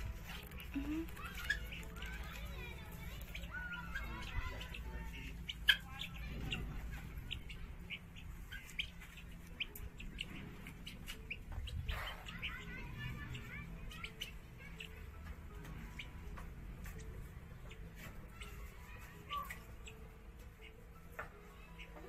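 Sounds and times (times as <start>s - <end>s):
caged birds chirping: 0.0s - 22.0s.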